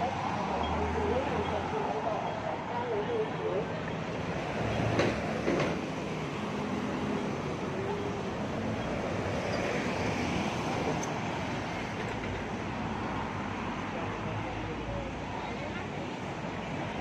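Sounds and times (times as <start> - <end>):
indistinct talk of passers-by: 0.0 - 17.0
road traffic noise: 0.0 - 17.0.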